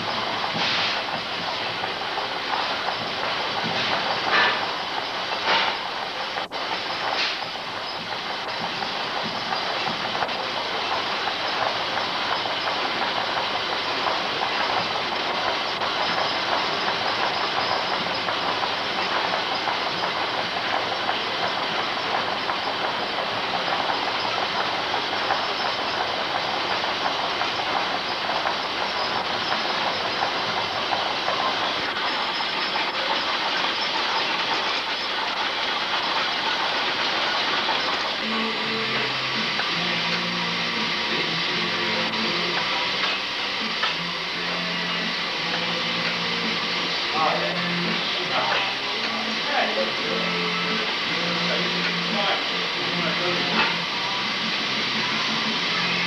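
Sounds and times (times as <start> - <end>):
steam hissing: 0.0 - 56.0
steam machinery clattering: 0.0 - 56.0.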